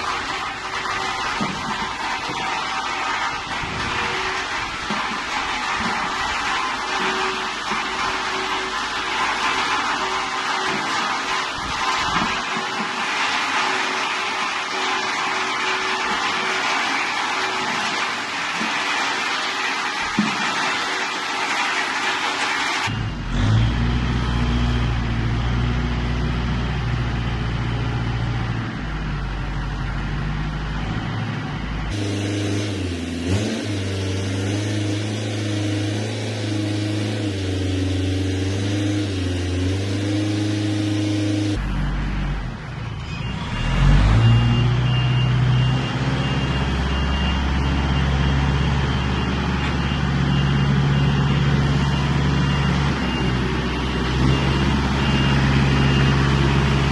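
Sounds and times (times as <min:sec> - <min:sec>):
vehicle engines running: 0:00.0 - 0:56.9.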